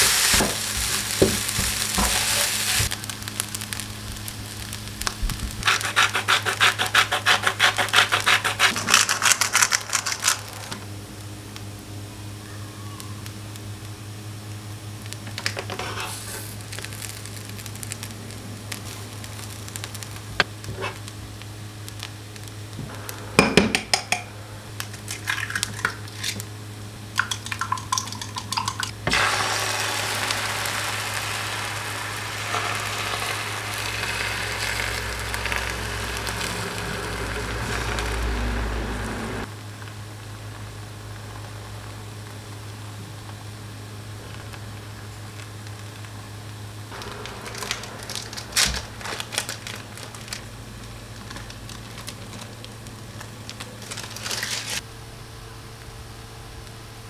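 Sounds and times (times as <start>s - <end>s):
food sizzling in frying pan: 0.0s - 12.4s, 13.0s - 54.8s.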